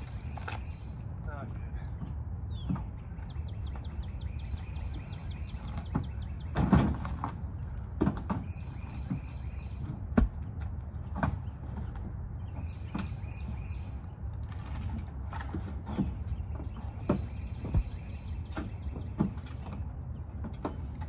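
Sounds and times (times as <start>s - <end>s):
logs knocking and thumping: 1.9s - 4.0s, 5.1s - 13.7s, 14.6s - 21.0s.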